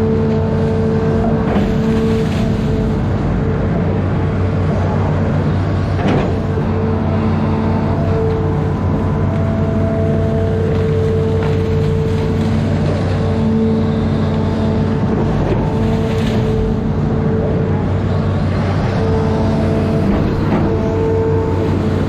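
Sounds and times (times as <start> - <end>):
excavator diesel engine running: 0.0 - 22.0
machine whine: 0.0 - 22.0.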